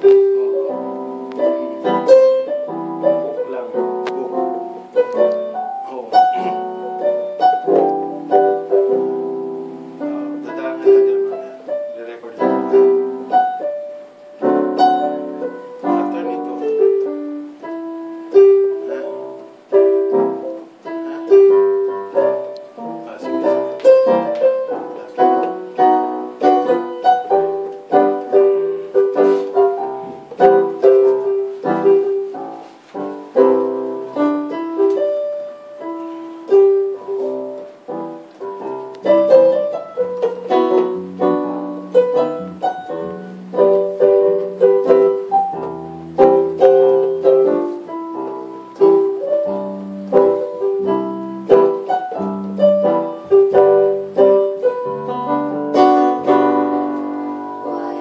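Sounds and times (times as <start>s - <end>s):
electronic keyboard piano chords: 0.0s - 58.0s.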